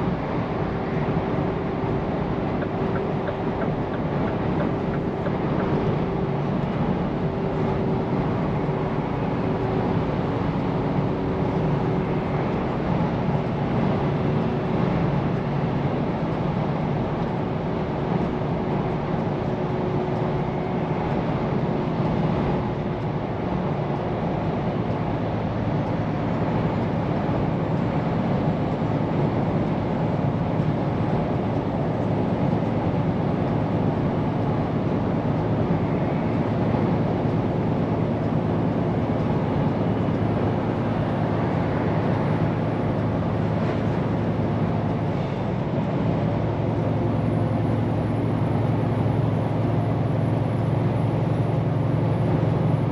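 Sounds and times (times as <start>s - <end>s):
road and tyre noise: 0.0s - 52.9s
truck engine running: 0.0s - 52.9s.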